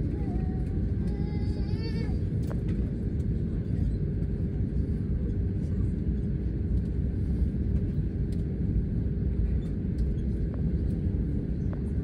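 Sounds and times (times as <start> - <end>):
airliner cabin rumble: 0.0 - 12.0
mid-pitched hum: 0.0 - 12.0.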